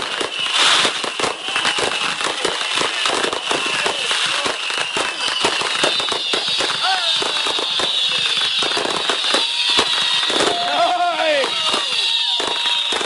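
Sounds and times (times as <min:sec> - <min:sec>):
fireworks crackling: 0:00.0 - 0:13.0
loud firework burst: 0:00.0 - 0:13.0.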